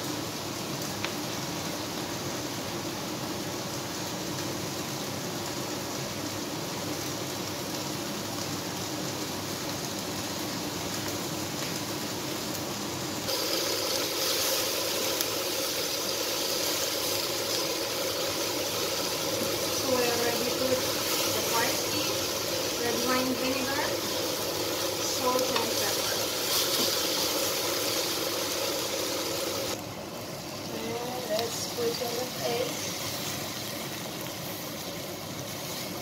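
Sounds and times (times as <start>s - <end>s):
beef and vegetables sizzling in pan: 0.0s - 36.0s
steady hum and hiss: 0.0s - 36.0s.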